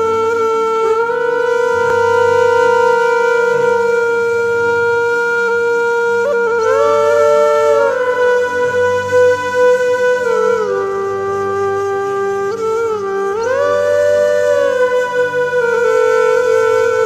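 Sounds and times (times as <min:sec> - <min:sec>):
flute-like wind instrument: 0:00.0 - 0:17.0.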